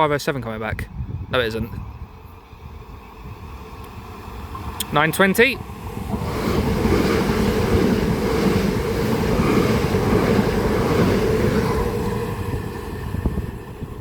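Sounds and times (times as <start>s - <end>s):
train wheels rumbling on rail: 2.5s - 14.0s.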